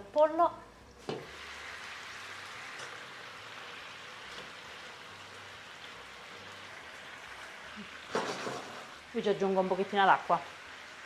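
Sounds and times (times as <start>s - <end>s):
chicken sizzling in hot oil: 1.0s - 11.0s.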